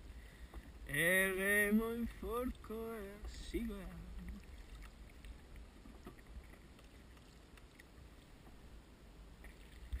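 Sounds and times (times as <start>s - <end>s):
faint water sounds: 0.0s - 10.0s.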